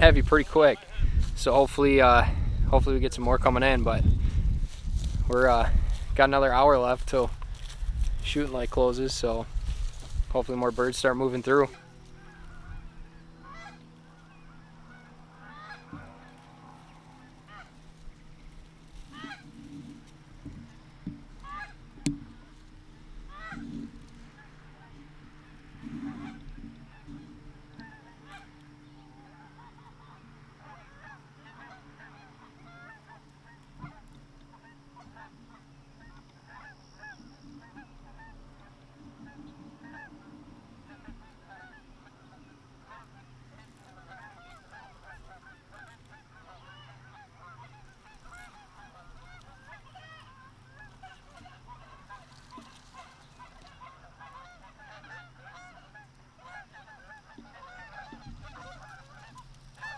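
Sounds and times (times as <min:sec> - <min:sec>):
geese honking: 0:00.0 - 0:59.9.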